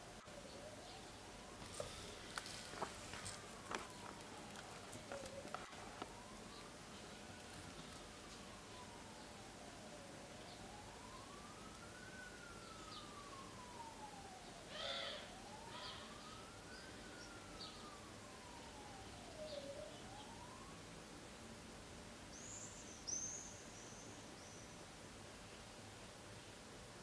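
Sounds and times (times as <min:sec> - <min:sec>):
faint wailing siren: 0:00.0 - 0:24.8.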